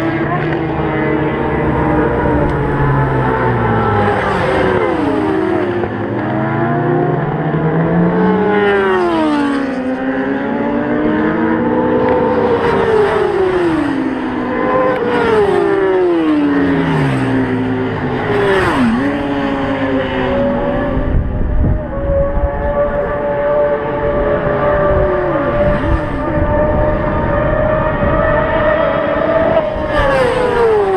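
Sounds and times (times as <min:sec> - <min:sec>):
racing motorcycles at high revs: 0:00.0 - 0:30.9.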